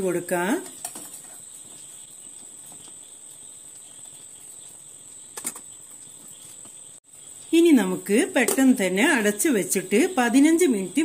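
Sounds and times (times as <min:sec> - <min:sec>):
water boiling with steady hiss: 0:00.0 - 0:11.0.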